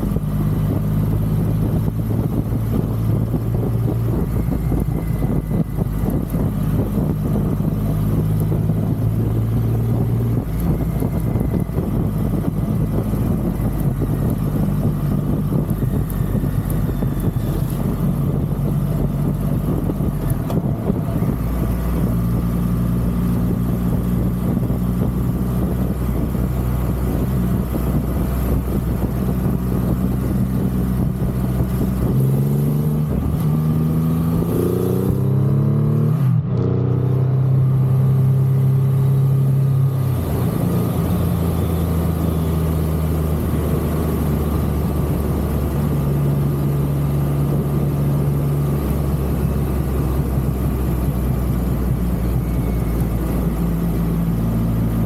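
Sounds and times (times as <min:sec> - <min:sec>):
motorcycle engine cruising: 0:00.0 - 0:55.0
wind rushing past microphone: 0:00.0 - 0:55.0.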